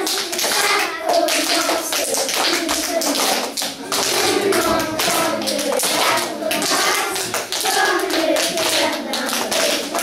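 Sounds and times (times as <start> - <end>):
children singing: 0.0 - 10.0
hands clapping in rhythm: 0.0 - 10.0.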